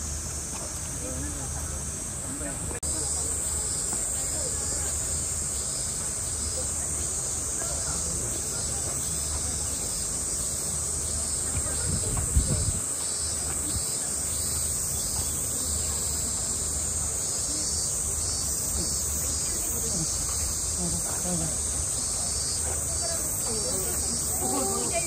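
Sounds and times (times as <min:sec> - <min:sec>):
cicadas droning: 0:00.0 - 0:25.0.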